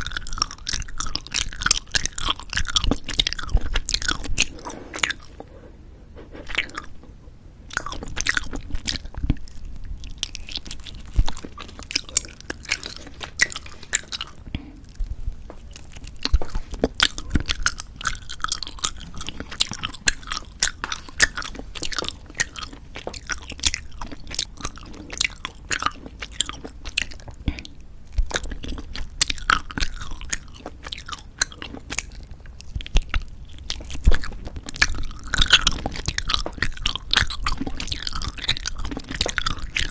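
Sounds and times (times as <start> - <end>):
chewing gummy candies: 0.0 - 5.5, 6.2 - 39.9.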